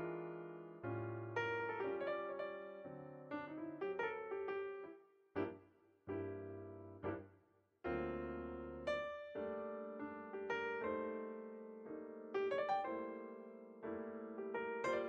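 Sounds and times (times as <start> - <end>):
gentle piano music: 0.0 - 7.3, 7.9 - 15.0.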